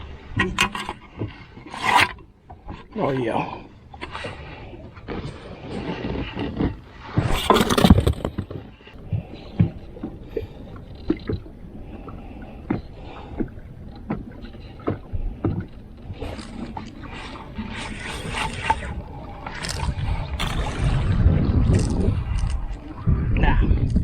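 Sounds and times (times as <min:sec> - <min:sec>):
fishing gear knocking and clunking: 0:00.3 - 0:04.4, 0:05.2 - 0:11.6, 0:12.6 - 0:20.9, 0:21.5 - 0:22.8.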